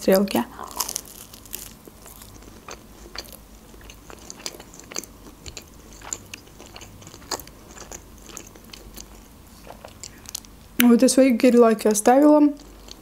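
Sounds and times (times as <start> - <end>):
crunchy chewing: 0.5 - 10.6, 12.5 - 13.0.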